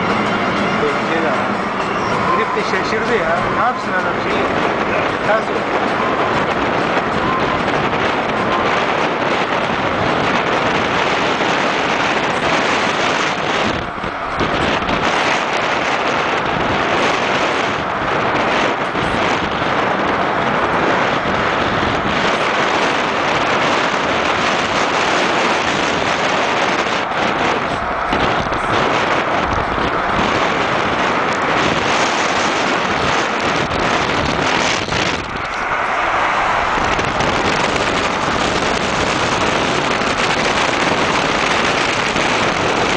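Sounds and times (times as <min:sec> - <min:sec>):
road traffic noise: 0:00.0 - 0:42.9
wind buffeting microphone: 0:00.0 - 0:42.9.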